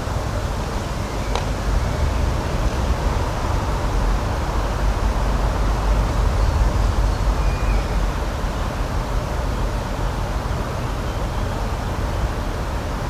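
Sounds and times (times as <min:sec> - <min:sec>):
deep constant rumble: 0:00.0 - 0:10.9.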